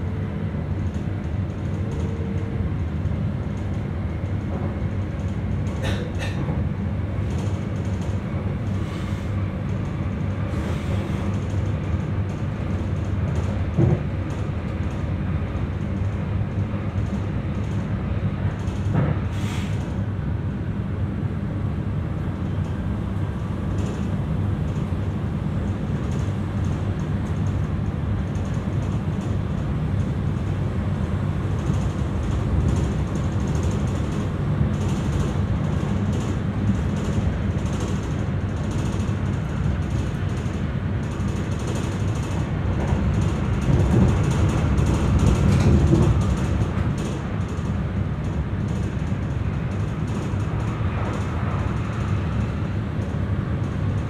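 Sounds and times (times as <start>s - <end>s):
low rumble of train wheels: 0.0s - 54.0s.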